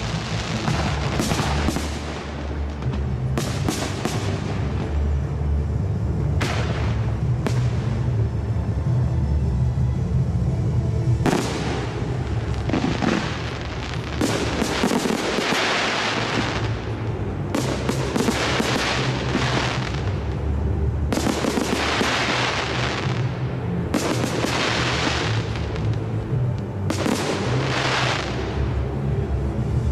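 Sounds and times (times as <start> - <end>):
fireworks bursting and crackling: 0.0 - 8.6, 11.2 - 29.0
music: 0.0 - 29.9.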